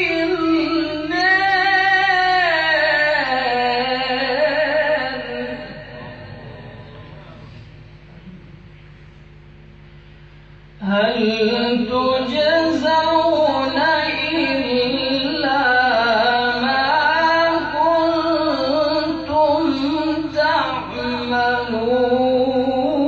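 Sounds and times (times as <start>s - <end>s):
man reciting melodically: 0.0s - 7.6s, 10.8s - 23.0s.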